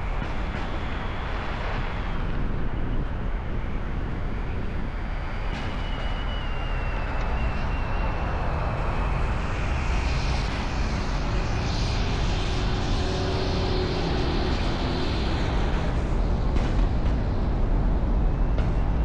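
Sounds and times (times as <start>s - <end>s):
road traffic rumble and hiss: 0.0s - 18.8s.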